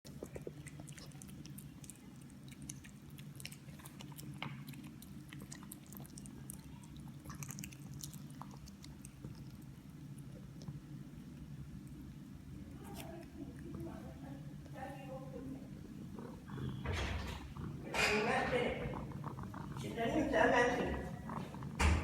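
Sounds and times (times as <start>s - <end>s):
cat licking and chewing: 0.0s - 22.0s.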